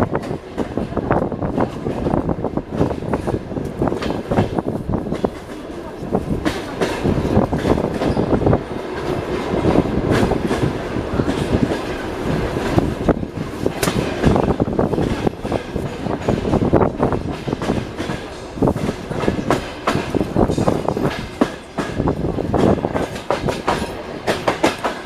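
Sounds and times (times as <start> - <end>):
train carriage rumbling: 0.0 - 25.0.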